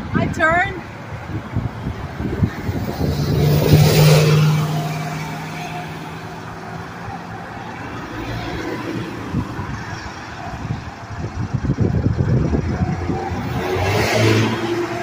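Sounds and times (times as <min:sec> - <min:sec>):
steady highway traffic noise: 0:00.0 - 0:15.0
vehicle passing by: 0:02.1 - 0:15.0.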